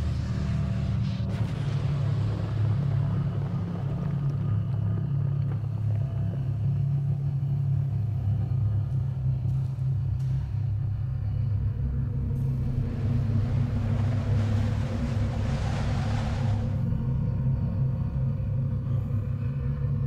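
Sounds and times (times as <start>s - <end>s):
steady deep rumble: 0.0s - 20.0s.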